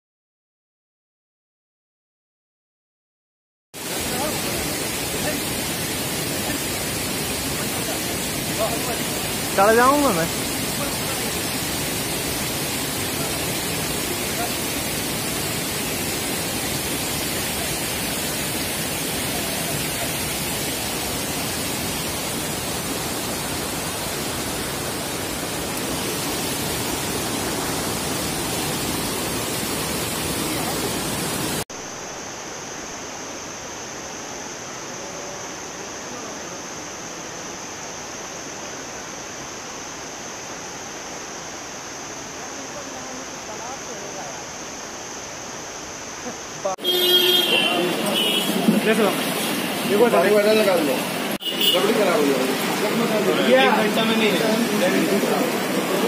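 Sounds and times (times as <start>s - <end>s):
waterfall rushing: 3.8s - 56.0s.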